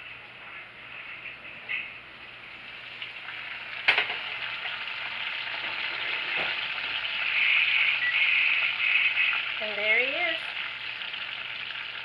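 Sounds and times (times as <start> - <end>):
pan juices sizzling: 1.7 - 12.0.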